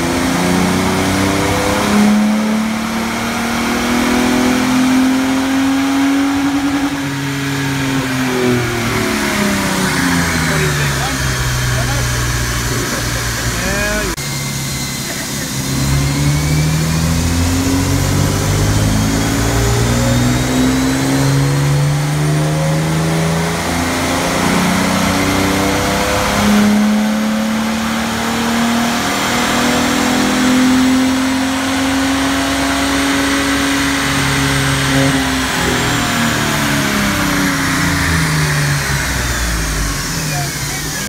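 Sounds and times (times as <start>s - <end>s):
engine revving under load: 0.0s - 41.0s.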